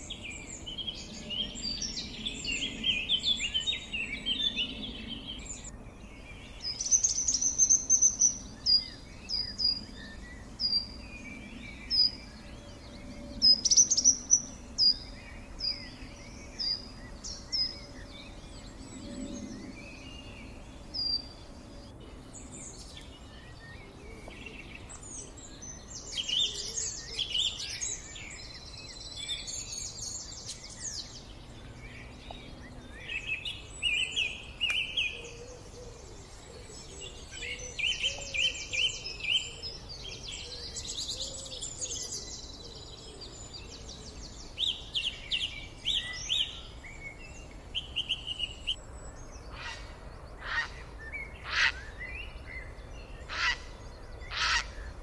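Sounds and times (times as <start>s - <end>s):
bird chirps and trills: 0.0s - 55.0s.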